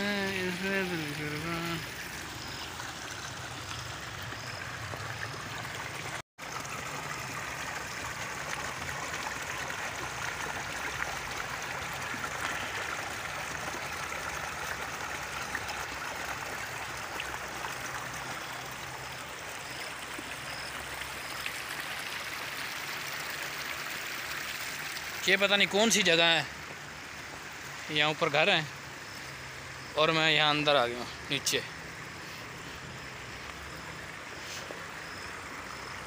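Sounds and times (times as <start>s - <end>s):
stream babbling over rocks: 0.0s - 36.0s.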